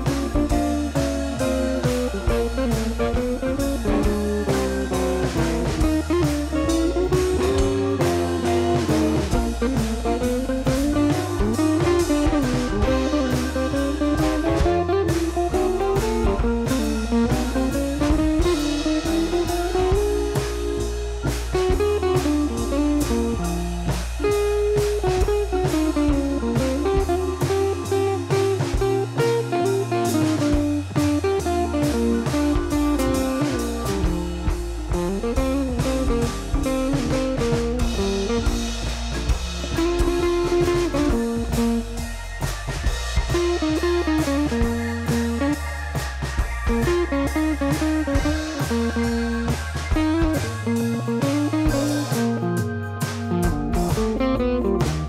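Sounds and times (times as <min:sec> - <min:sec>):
blues guitar melody: 0:00.0 - 0:55.0
steady drum beat: 0:00.0 - 0:55.0.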